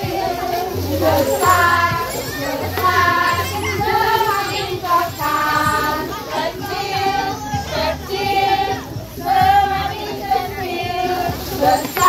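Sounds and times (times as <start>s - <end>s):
backing music: 0.0s - 12.0s
children singing: 0.0s - 12.0s.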